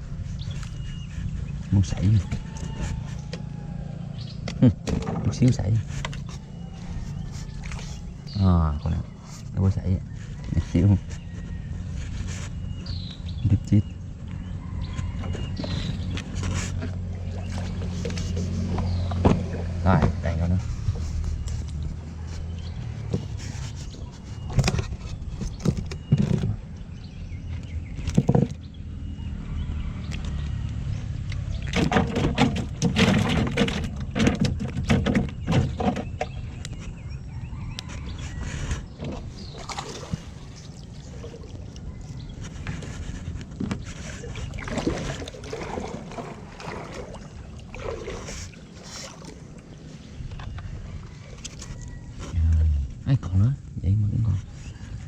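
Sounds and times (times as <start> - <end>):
water sloshing around a boat: 0.0 - 53.1.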